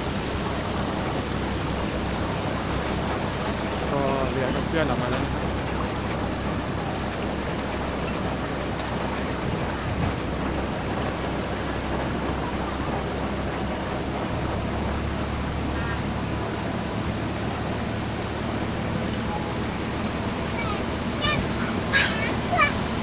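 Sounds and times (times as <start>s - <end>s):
boat motor running: 0.0s - 23.0s
water rushing: 0.0s - 23.0s.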